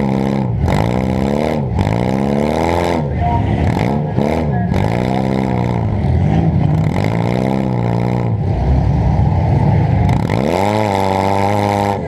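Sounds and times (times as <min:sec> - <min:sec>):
car engine revving hard: 0:00.0 - 0:09.2, 0:09.8 - 0:12.0.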